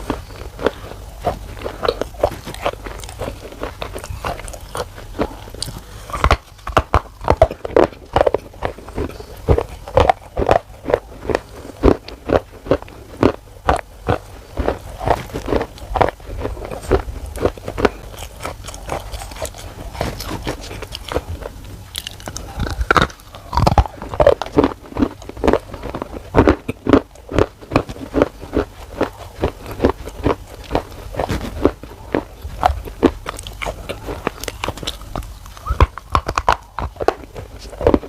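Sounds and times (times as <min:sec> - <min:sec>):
chewing crunchy food: 0:00.0 - 0:38.0.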